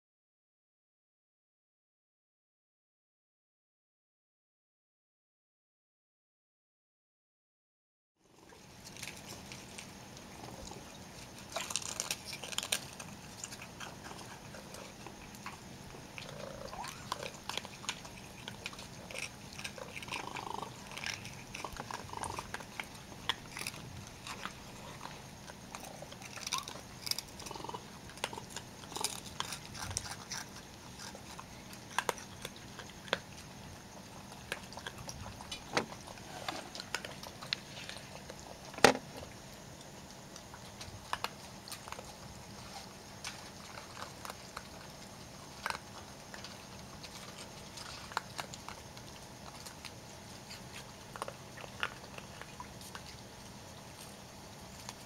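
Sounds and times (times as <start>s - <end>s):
raccoons crunching dry food: 8.3s - 55.0s.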